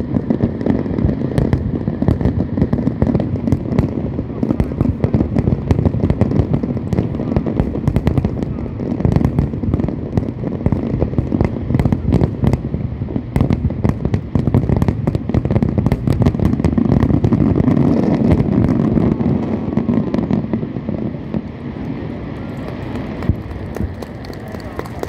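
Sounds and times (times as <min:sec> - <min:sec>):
fireworks bangs and crackles: 0:00.0 - 0:25.0
heavy booming rumble: 0:00.0 - 0:25.0.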